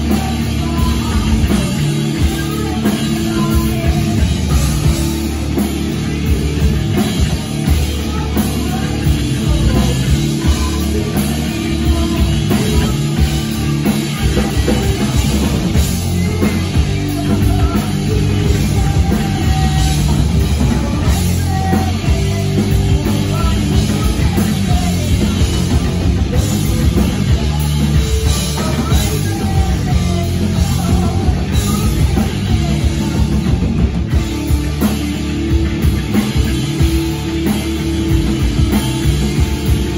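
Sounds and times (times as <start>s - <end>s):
person singing: 0.0s - 34.8s
distorted electric guitar: 0.0s - 39.9s
drum kit: 0.0s - 39.9s
electric bass: 0.0s - 39.9s.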